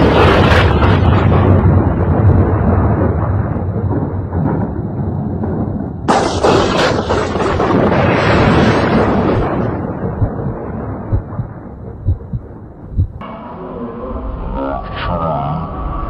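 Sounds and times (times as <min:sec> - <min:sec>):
thunder crack: 0:00.0 - 0:13.2
thunder rumbling: 0:00.0 - 0:13.2.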